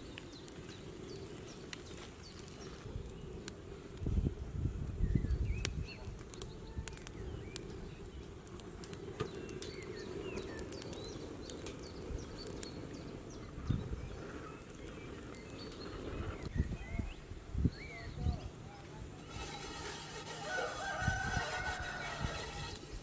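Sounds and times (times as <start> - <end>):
small birds chirping: 0.0 - 3.6, 4.2 - 19.8.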